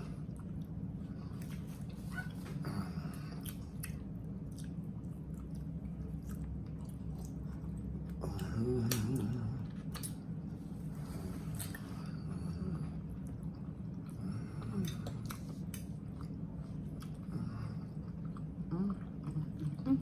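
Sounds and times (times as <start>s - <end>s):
people chewing food: 0.0s - 20.0s
steady low hum: 0.0s - 20.0s.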